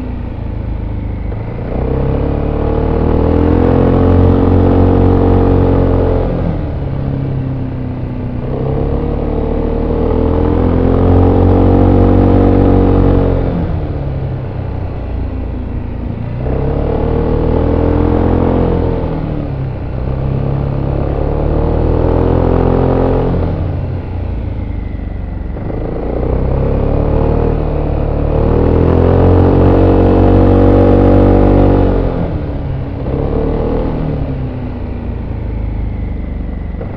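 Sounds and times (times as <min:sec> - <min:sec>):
road and wind noise: 0:00.0 - 0:36.9.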